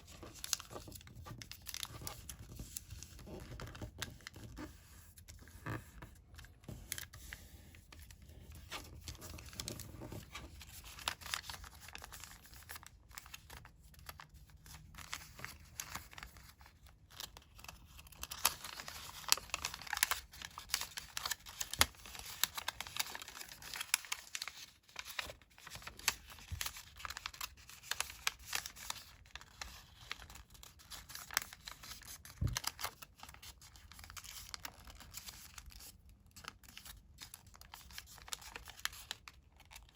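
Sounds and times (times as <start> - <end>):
paper crinkling and creasing: 0.0 - 39.9.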